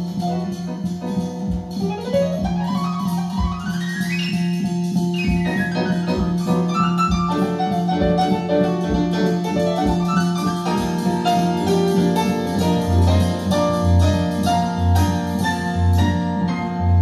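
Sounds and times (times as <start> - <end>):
deep bass line: 0.0 - 17.0
piano music over loudspeakers: 0.0 - 17.0.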